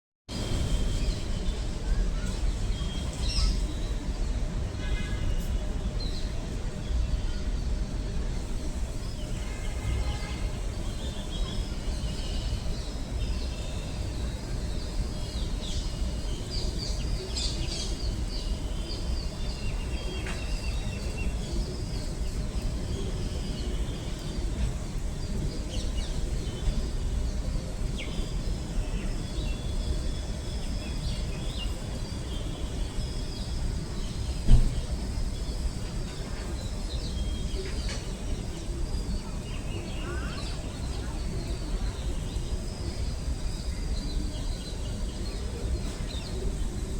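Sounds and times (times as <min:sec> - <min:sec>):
small birds chirping and trilling: 0:00.4 - 0:04.5, 0:05.8 - 0:46.9.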